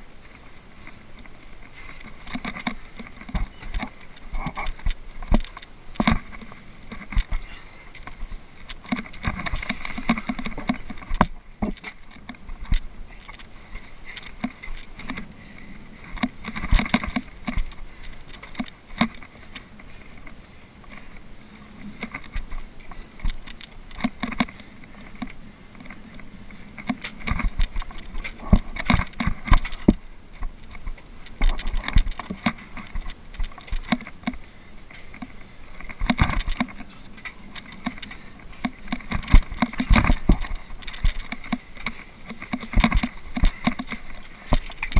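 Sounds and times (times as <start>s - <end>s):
rustling handling noise: 0.0s - 44.9s
climbing gear clicking: 0.2s - 44.9s.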